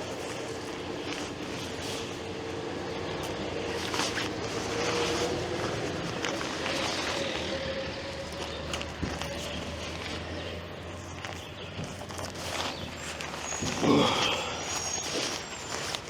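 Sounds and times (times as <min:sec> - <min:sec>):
light clicks and rustles: 0:00.0 - 0:16.0.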